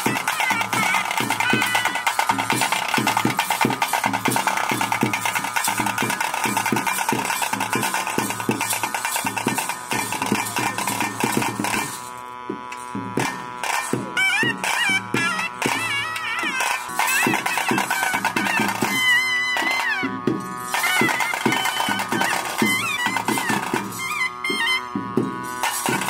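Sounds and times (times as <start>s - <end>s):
fast steady drumbeat: 0.0s - 26.0s
reed pipe holding long notes: 0.0s - 26.0s.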